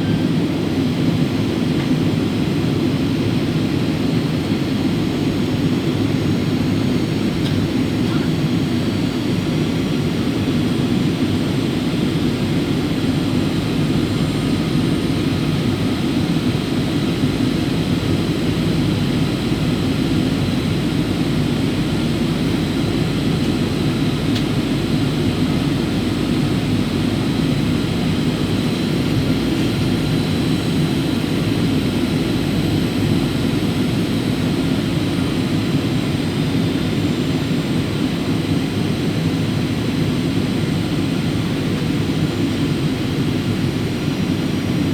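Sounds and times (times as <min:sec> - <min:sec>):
aircraft cabin engine drone: 0:00.0 - 0:44.9.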